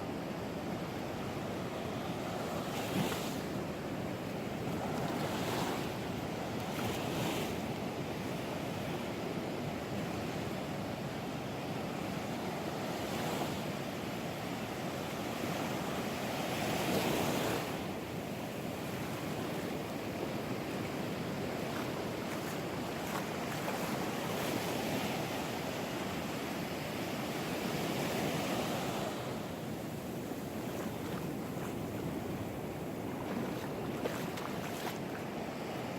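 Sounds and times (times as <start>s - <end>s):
surf breaking on a beach: 1.4s - 35.9s.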